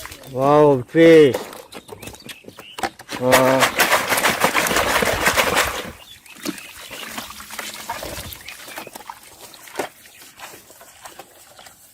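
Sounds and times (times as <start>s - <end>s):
water splashing and sloshing: 0.0s - 0.6s, 2.9s - 11.9s.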